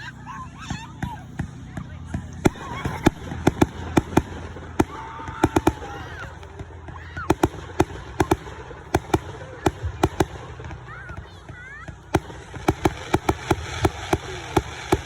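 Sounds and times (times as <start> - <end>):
fireworks bangs: 0.8 - 15.0.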